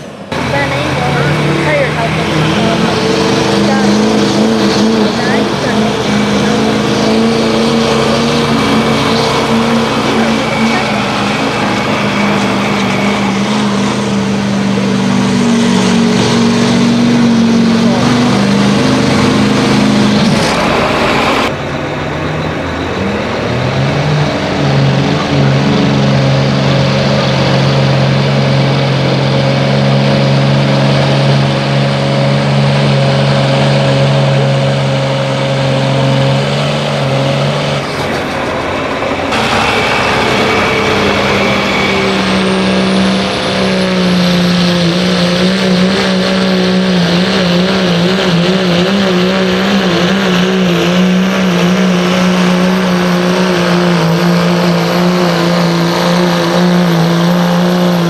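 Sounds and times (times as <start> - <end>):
diesel engines at high revs: 0.0 - 58.0.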